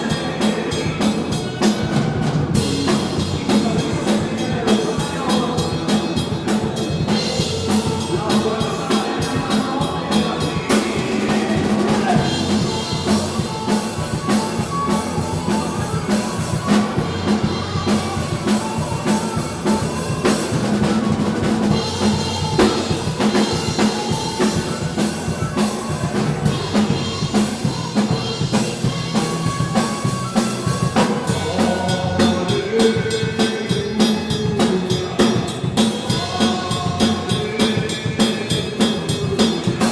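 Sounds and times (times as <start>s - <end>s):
bass drum and snare beat: 0.0s - 39.9s
live rock band playing: 0.0s - 39.9s.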